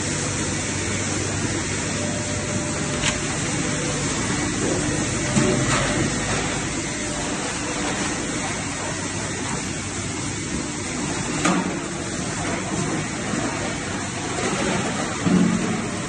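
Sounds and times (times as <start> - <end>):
plastic shredder crushing plastic: 2.3 - 16.0.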